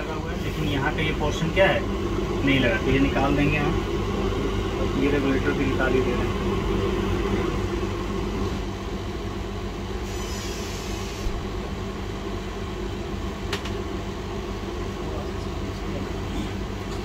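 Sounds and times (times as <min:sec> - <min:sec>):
hot air station blowing: 0:00.0 - 0:17.0.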